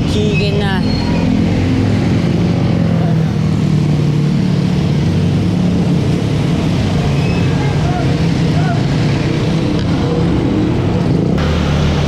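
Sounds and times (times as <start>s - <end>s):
road noise: 0.0s - 12.0s
vehicle engine running: 1.3s - 12.0s.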